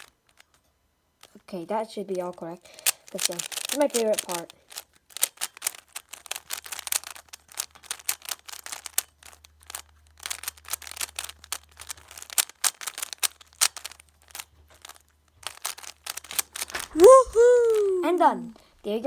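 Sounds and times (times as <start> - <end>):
plastic puzzle cube clicking: 2.6 - 18.2.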